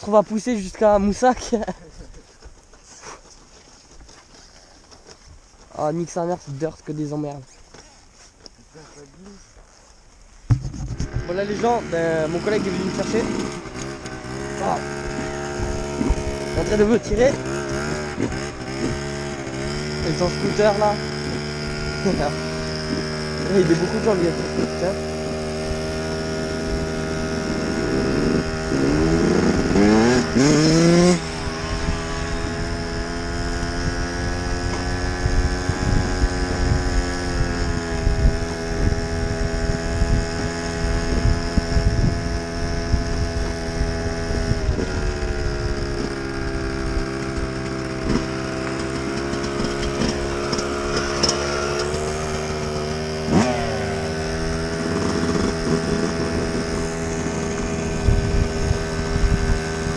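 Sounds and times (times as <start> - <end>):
small motorbike engine revving: 10.4 - 59.9.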